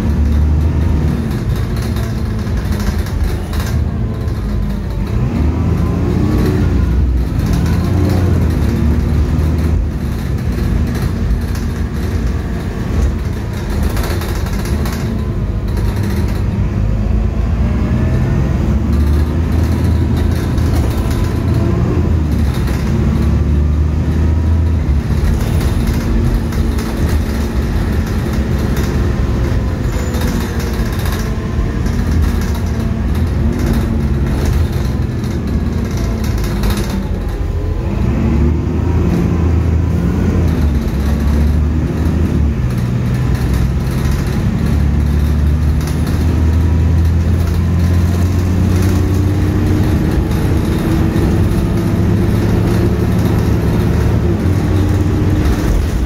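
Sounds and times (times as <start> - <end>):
bus diesel engine rumbling: 0.0 - 56.0.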